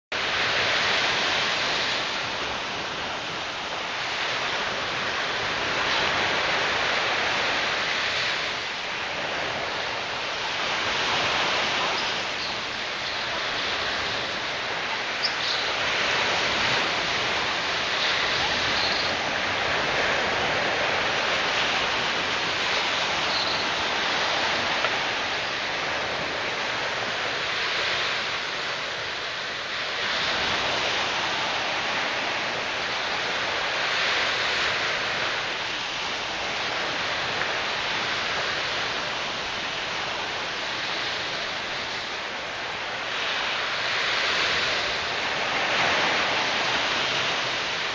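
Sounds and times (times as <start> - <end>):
small waves breaking on sand: 0.1 - 47.9.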